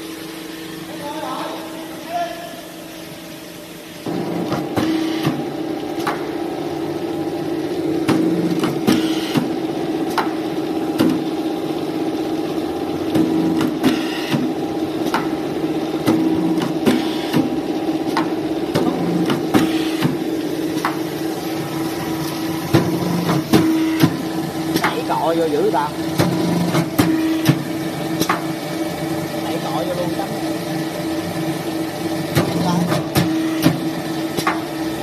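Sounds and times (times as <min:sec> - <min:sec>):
machine motor and pump hum: 0:00.0 - 0:35.0.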